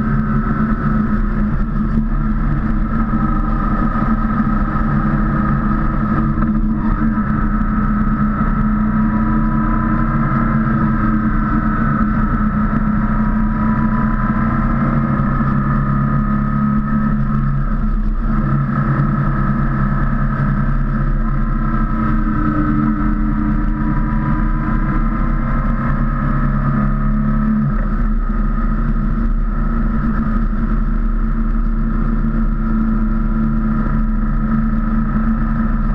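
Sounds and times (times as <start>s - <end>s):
motorcycle engine cruising: 0.0s - 35.9s.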